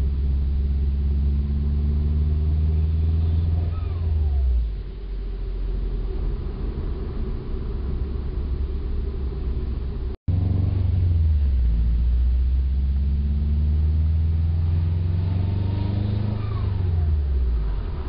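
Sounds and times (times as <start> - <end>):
turbocharged engine revving up: 0.0 - 4.8, 5.9 - 18.0.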